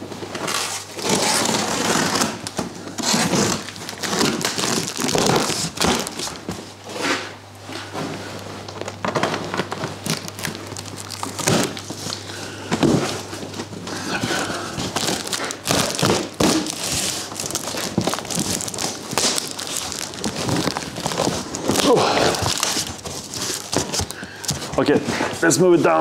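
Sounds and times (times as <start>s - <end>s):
cardboard and packing rustling: 0.0s - 26.0s.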